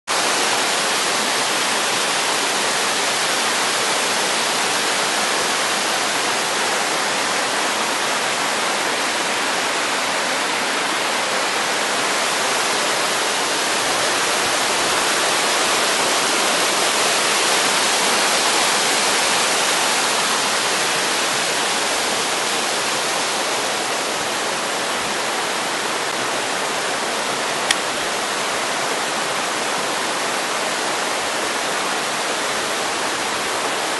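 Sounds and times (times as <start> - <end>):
stream rushing over rocks: 0.1 - 33.9.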